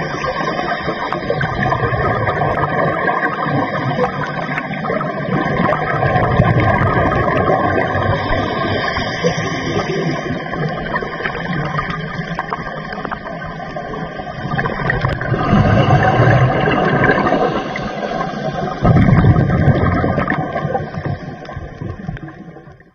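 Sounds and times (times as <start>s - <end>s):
underwater rushing water: 0.0s - 22.9s.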